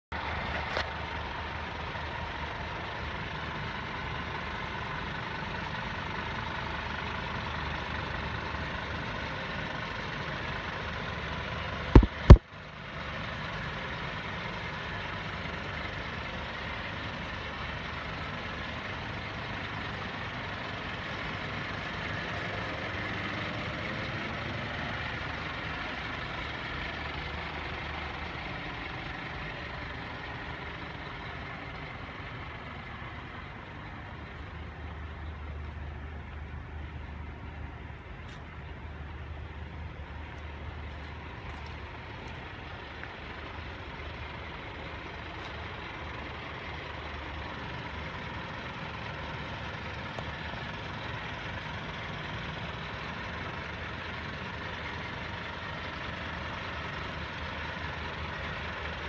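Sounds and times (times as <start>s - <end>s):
diesel truck engine idling: 0.1s - 59.0s.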